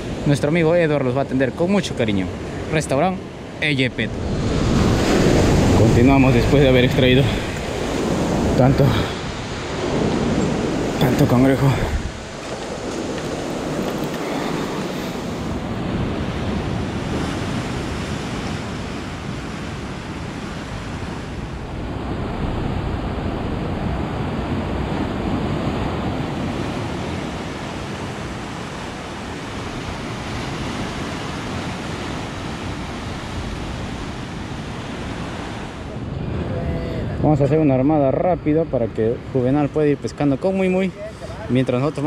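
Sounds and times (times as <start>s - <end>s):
ocean surf breaking over rocks: 0.0s - 42.0s
wind buffeting microphone: 4.0s - 37.8s.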